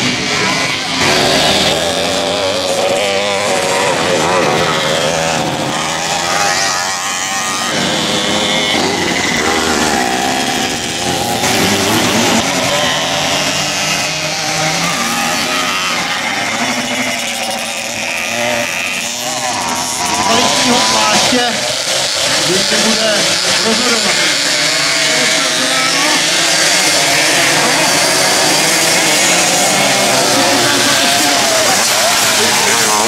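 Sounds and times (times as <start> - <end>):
scooter engines revving: 0.0 - 33.0.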